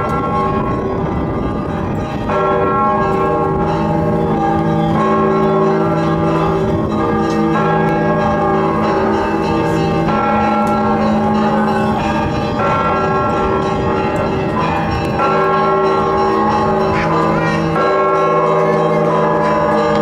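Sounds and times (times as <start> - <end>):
church bells pealing: 0.0 - 20.0.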